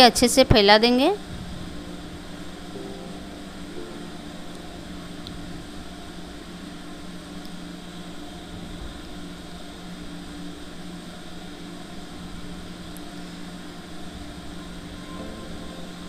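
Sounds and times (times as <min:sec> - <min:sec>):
steady hiss: 0:00.0 - 0:16.0
low hum: 0:01.2 - 0:16.0.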